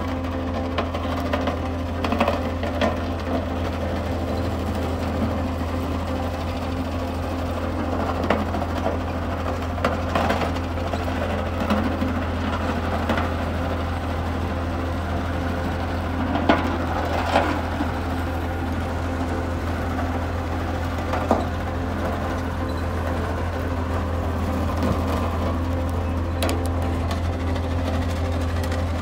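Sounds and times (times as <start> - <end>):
road roller diesel engine: 0.0 - 29.0.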